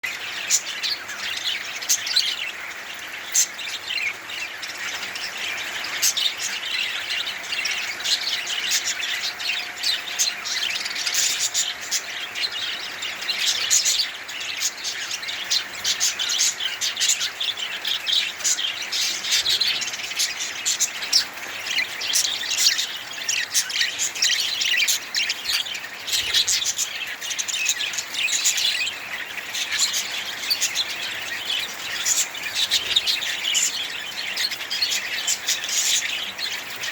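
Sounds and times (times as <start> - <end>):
budgerigars chirping: 0.0 - 36.9.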